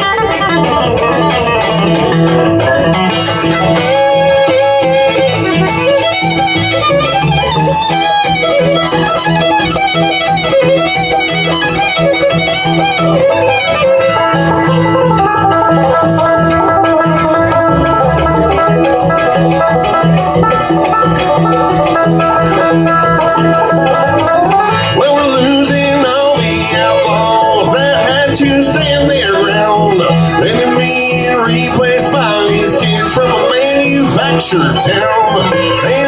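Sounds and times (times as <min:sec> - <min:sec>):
bluegrass band playing: 0:00.0 - 0:36.0.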